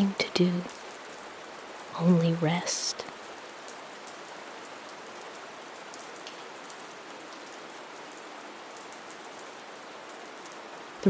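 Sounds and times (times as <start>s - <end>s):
raindrop ticks: 0.0s - 10.9s
steady light rain: 0.0s - 11.0s.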